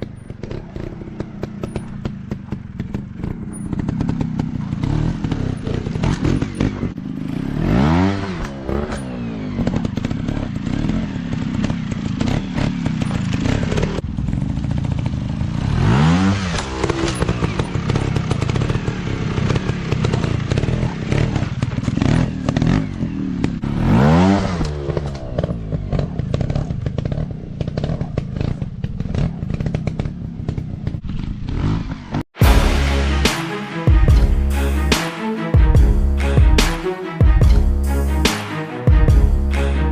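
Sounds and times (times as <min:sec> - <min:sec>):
dirt bike engines revving: 0:00.0 - 0:35.4.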